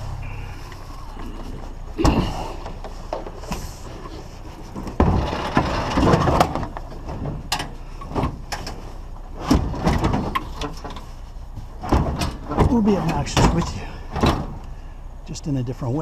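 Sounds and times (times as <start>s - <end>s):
knocks and clunks: 0.0s - 14.8s
low steady rumble: 0.0s - 16.0s.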